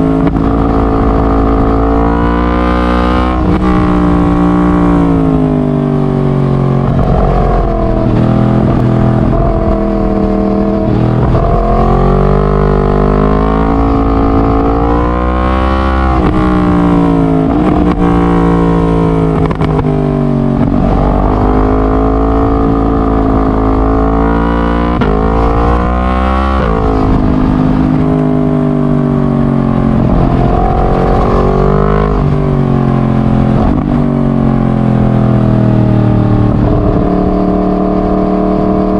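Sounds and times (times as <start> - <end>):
loud motorcycle engine revving: 0.0 - 38.9.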